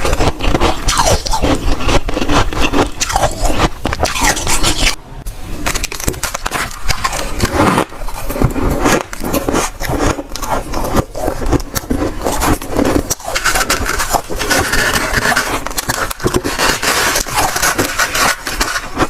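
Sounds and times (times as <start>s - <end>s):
chewing crunchy frost: 0.0s - 5.0s, 5.6s - 19.0s.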